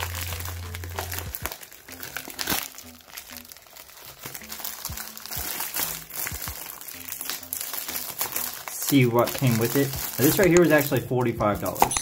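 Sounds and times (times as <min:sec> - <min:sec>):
faint background music: 0:00.0 - 0:12.0
plastic envelope crinkling: 0:00.0 - 0:12.0.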